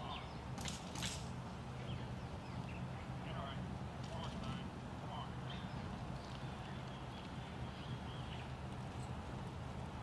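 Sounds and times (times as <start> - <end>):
small birds chirping: 0.0 - 0.9, 1.5 - 3.6, 4.2 - 9.8
low outdoor rumble: 0.0 - 10.0.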